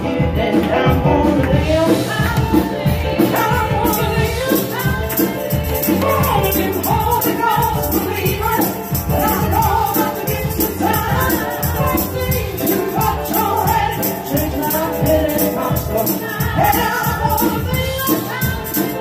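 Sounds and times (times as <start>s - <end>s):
gospel singing over a band: 0.0s - 19.0s
percussion steady beat: 0.0s - 19.0s.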